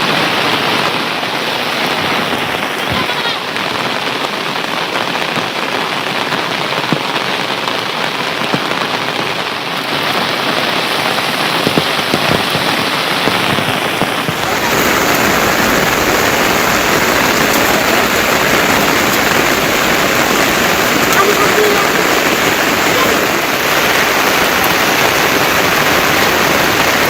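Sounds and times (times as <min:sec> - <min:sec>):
heavy rain falling: 0:00.0 - 0:27.0
sharp raindrop hits: 0:00.0 - 0:27.0.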